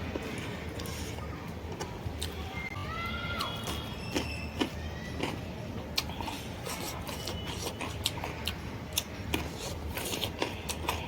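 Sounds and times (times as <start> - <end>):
person chewing: 0.0 - 2.4, 3.4 - 11.0.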